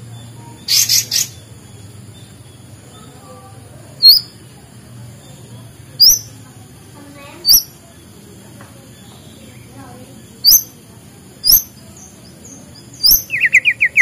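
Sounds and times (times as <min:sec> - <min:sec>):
soft bird chirps: 0:00.0 - 0:14.0.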